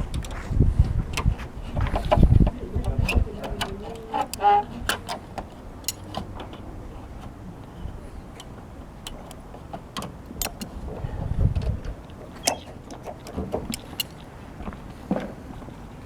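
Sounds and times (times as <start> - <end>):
clicks and taps on metal roof: 0.0 - 7.4, 8.4 - 15.4.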